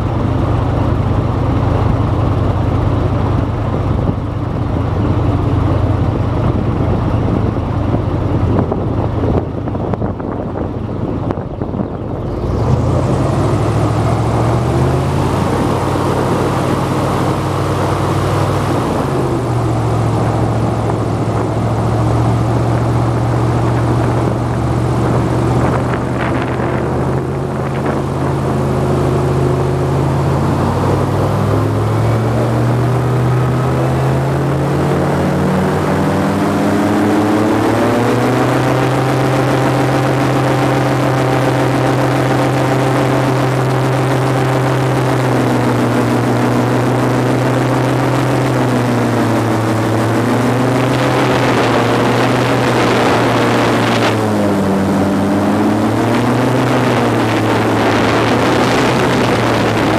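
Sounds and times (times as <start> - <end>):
airboat engine and propeller: 0.0 - 59.9.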